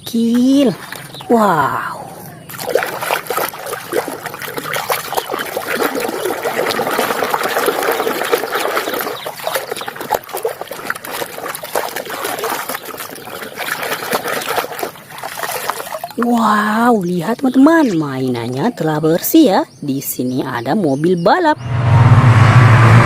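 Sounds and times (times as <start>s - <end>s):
water trickling and splashing: 0.0s - 19.6s.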